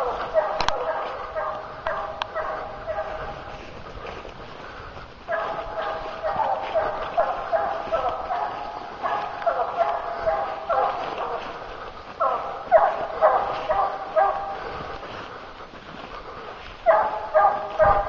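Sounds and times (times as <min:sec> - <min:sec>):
hounds baying: 0:00.0 - 0:18.0.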